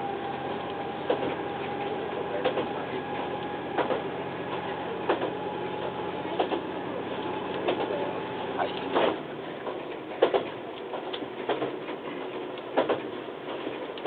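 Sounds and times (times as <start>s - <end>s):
railcar engine drone: 0.0s - 14.0s
wheels clacking over rail joints: 0.0s - 14.0s.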